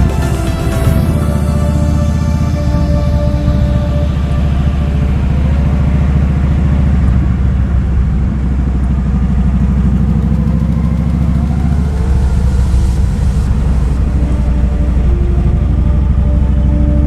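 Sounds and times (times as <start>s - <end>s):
motorcycle engine pulsing exhaust: 0.0s - 17.0s.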